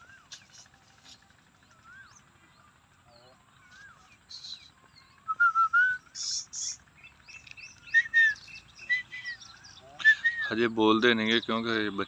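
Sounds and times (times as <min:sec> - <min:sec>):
bird noisy calls: 0:00.0 - 0:12.0
small birds chirping: 0:00.0 - 0:12.0.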